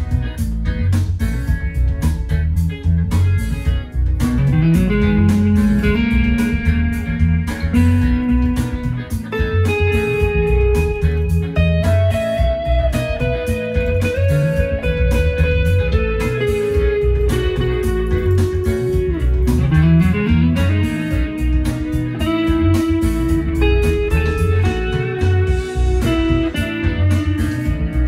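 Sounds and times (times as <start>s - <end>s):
backing track with beat and bass: 0.0s - 28.0s
electric guitar lead: 0.0s - 28.0s.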